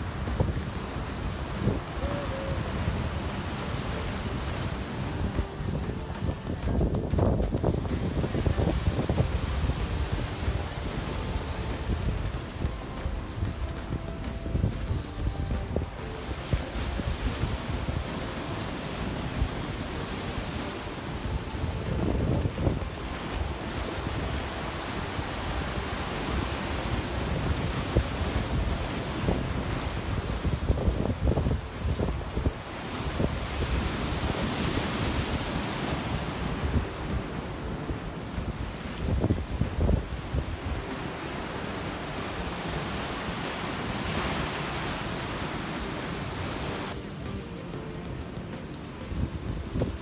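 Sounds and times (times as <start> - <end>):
sea waves washing on shore: 0.0 - 50.0
wind gusting on microphone: 0.0 - 50.0.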